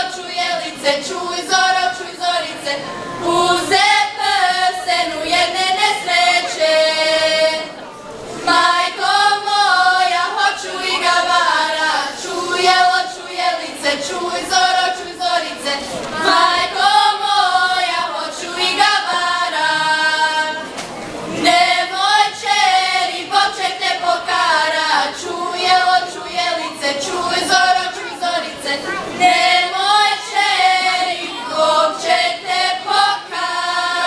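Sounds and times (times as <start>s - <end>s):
women singing folk song unaccompanied: 0.0s - 7.8s, 8.4s - 20.8s, 21.4s - 34.0s.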